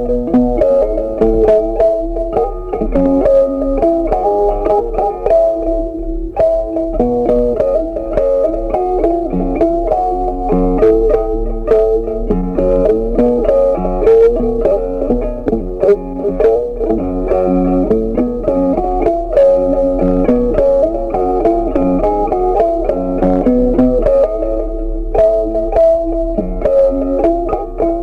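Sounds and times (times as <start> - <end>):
low bass line: 0.0 - 28.0
plucked guitar melody: 0.0 - 28.0.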